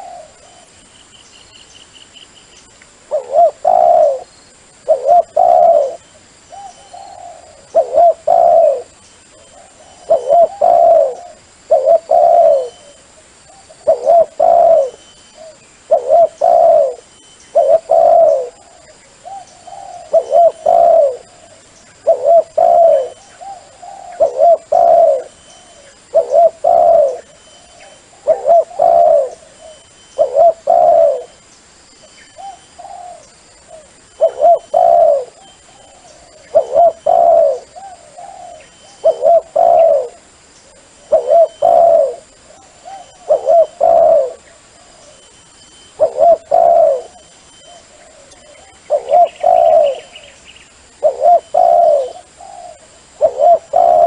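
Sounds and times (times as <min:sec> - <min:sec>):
dove cooing: 0:00.0 - 0:00.9, 0:03.1 - 0:31.4, 0:32.3 - 0:54.0.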